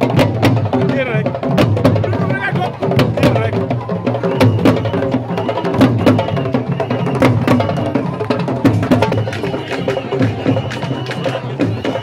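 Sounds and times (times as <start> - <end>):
drummers playing fast rhythm: 0.0 - 12.0.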